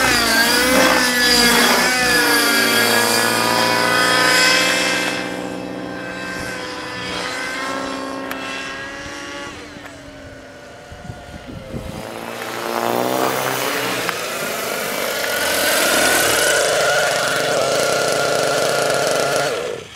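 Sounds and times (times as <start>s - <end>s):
model helicopter engine and rotor: 0.0s - 19.9s.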